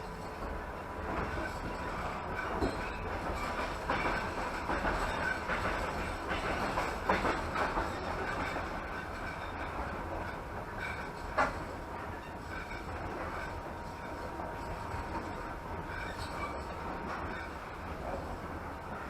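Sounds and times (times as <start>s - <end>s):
train carriage rumbling: 0.0s - 19.0s
wheels clattering over rails: 0.0s - 19.0s.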